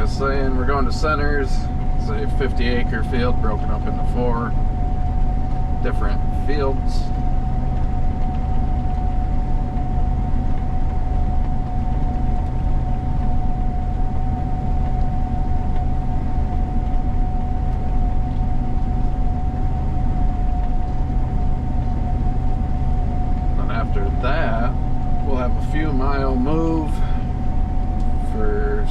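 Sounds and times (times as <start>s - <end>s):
combine engine rumble: 0.0s - 28.9s
constant high whine: 0.0s - 28.9s.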